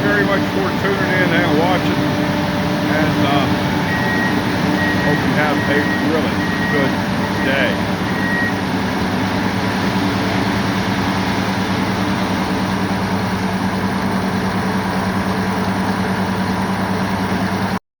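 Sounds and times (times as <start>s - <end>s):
machine engine idling: 0.0s - 17.8s.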